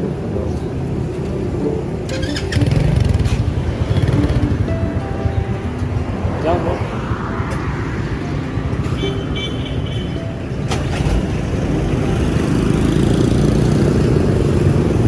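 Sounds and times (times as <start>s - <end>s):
street traffic rumbling: 0.0s - 15.0s.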